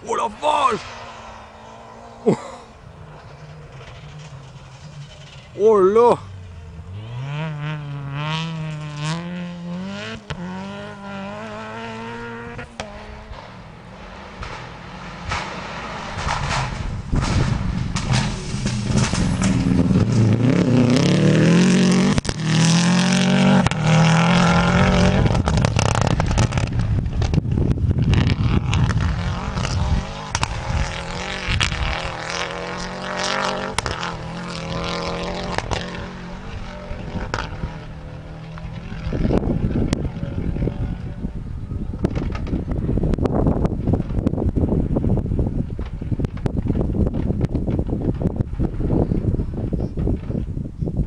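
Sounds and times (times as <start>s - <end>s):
rally car engine revving: 0.0s - 50.5s.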